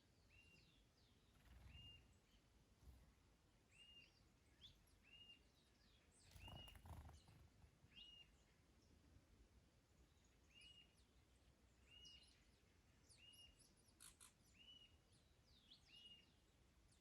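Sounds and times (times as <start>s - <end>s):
garden birds chirping: 0.0s - 17.0s.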